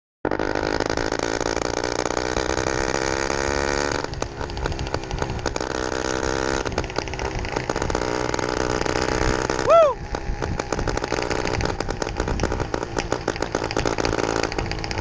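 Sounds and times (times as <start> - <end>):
two-stroke engine running: 0.2 - 15.0.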